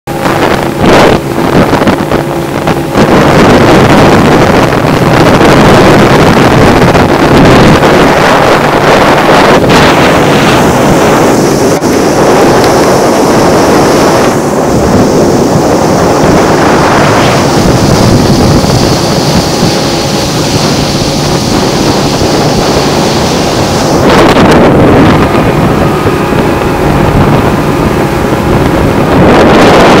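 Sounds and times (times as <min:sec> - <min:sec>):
motorboat engine hum: 0:00.1 - 0:30.0
water rushing past hull: 0:00.1 - 0:30.0
wind buffeting microphone: 0:00.1 - 0:30.0.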